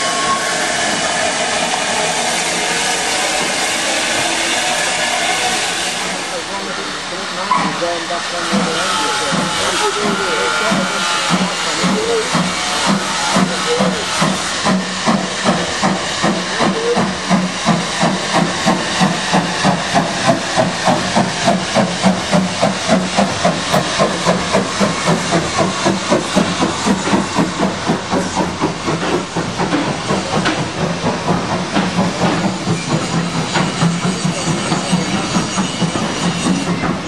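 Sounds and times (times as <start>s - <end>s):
steam hissing: 0.0s - 37.0s
steam locomotive exhaust beats: 0.0s - 37.0s.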